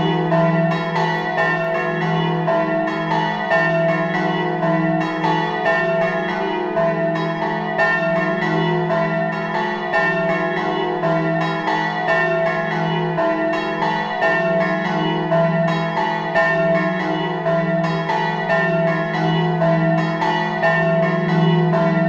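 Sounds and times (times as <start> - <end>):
church bells pealing: 0.0 - 22.0.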